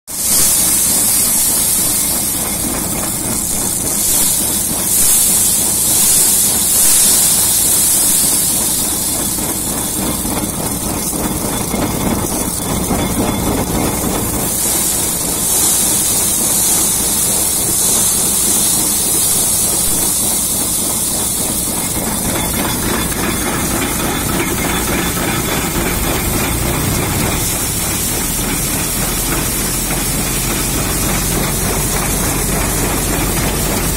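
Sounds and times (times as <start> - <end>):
threshing machine rushing hiss: 0.1 - 33.9.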